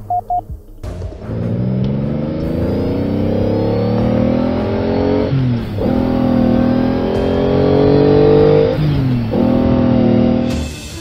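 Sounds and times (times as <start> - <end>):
car engine revving through gears: 0.9 - 10.8.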